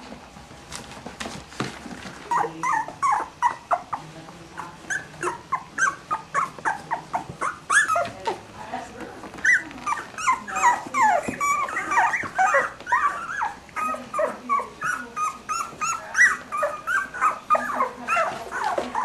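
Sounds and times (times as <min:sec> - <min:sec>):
puppies whimpering and yelping: 0:02.0 - 0:08.5, 0:09.2 - 0:19.0.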